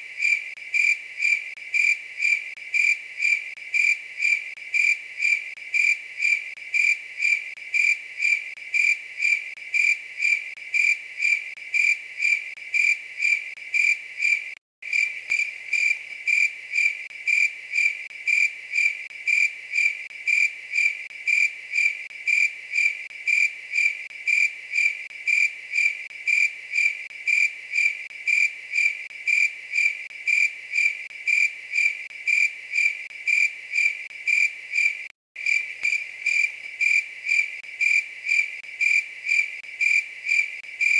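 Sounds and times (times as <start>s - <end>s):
insect chirping: 0.0s - 40.9s.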